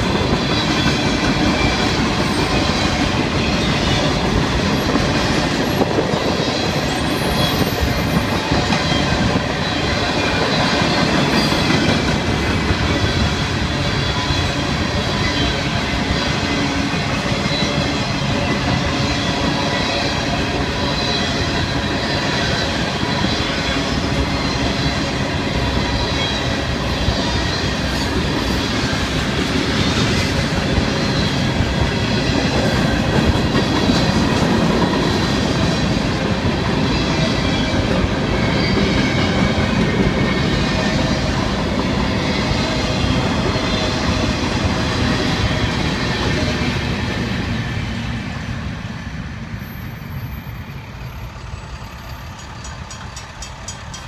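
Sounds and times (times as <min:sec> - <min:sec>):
steel wheels clattering on rails: 0:00.0 - 0:47.4, 0:50.4 - 0:54.0
freight train cars rolling past: 0:00.0 - 0:54.0.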